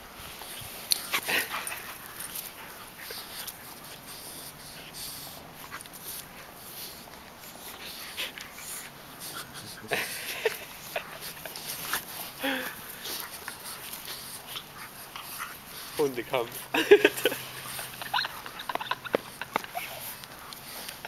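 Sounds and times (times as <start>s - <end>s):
dog vocal sounds: 0.9s - 21.0s.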